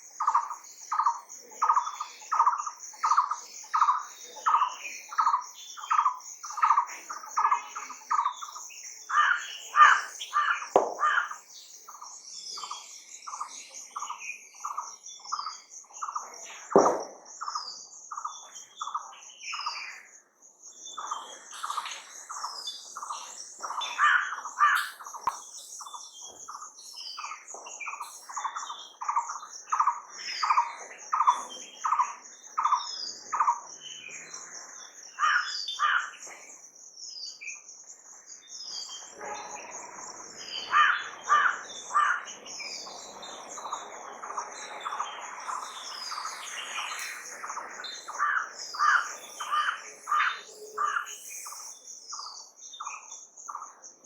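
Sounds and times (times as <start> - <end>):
bird chirps: 0.0 - 54.0.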